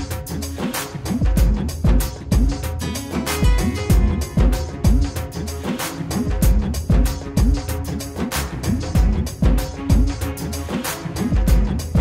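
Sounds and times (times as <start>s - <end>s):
sharp percussion: 0.0s - 12.0s.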